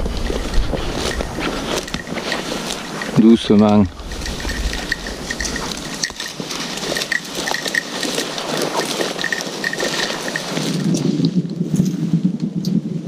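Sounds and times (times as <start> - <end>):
footsteps through dry undergrowth: 0.0 - 11.3.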